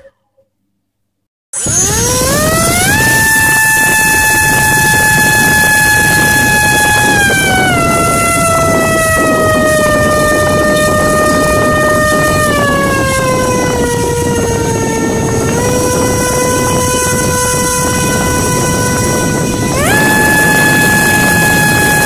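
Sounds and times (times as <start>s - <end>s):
motor high whine: 1.6s - 22.0s
propeller wash rushing: 1.6s - 22.0s.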